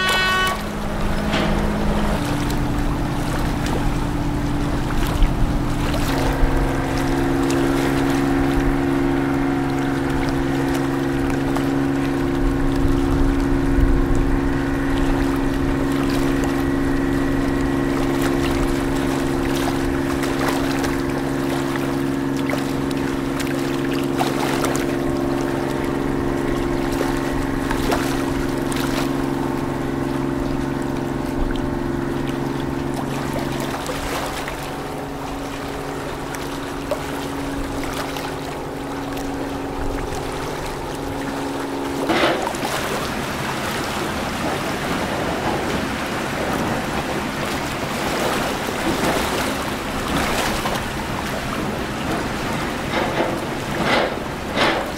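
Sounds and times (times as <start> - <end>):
boat engine running: 0.0 - 54.9
water lapping: 0.0 - 54.9.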